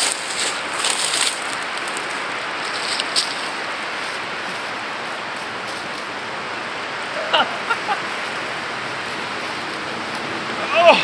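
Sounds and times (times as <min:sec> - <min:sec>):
wind rushing through trees: 0:00.0 - 0:11.0.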